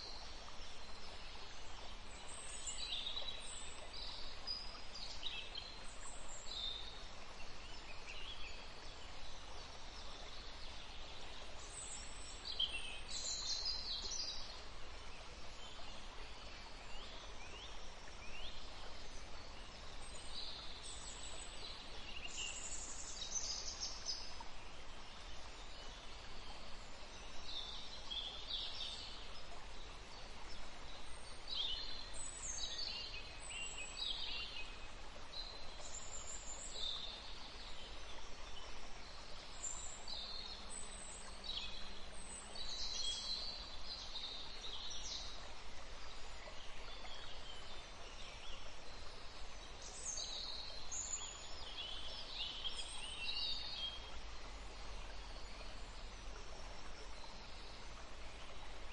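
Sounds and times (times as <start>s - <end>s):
low background hiss: 0.0s - 58.9s.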